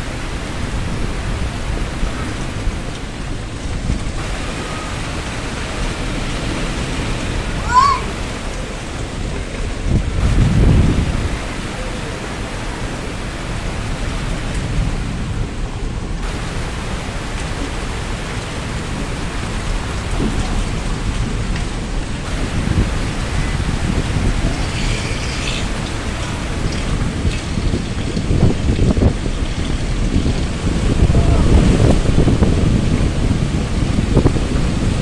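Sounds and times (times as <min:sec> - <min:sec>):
heavy rain pouring: 0:00.0 - 0:35.0
wind buffeting microphone: 0:00.0 - 0:35.0.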